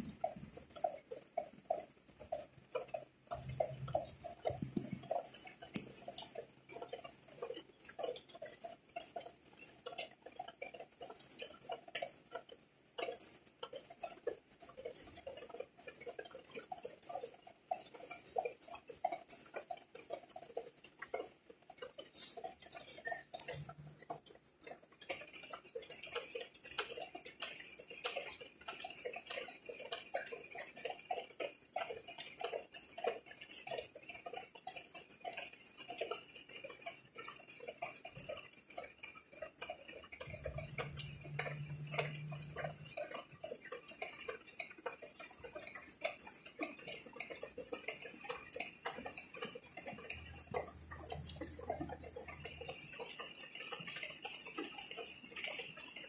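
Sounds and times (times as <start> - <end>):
high-pitched ticking: 0.0 - 56.0
raindrops ticking: 0.0 - 56.0.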